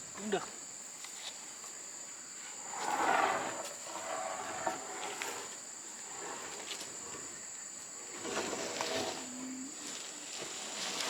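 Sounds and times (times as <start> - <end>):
insects droning: 0.0 - 11.0
rustle: 0.0 - 11.0.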